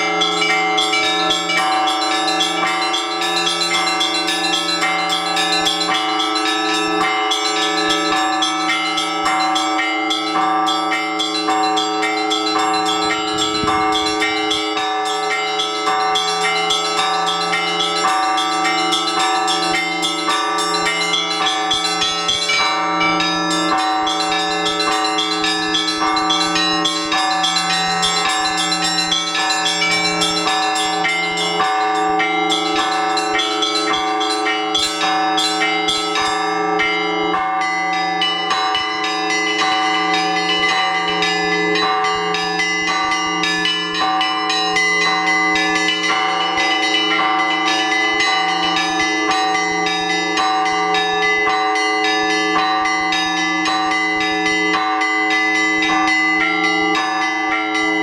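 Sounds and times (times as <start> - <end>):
low church bell beat: 0.0 - 58.0
small high bells striking rapidly: 0.0 - 58.0.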